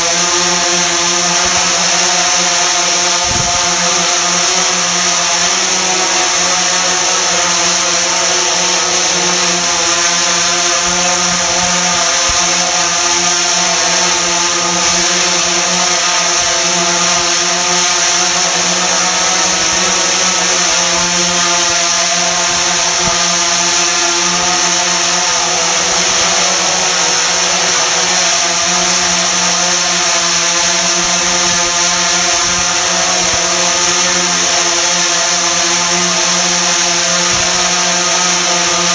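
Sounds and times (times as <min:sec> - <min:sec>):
drone hovering buzz: 0:00.0 - 0:38.9.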